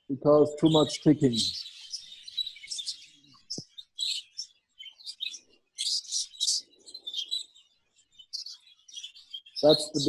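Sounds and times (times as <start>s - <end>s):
budgerigars chirping: 0.3s - 10.0s.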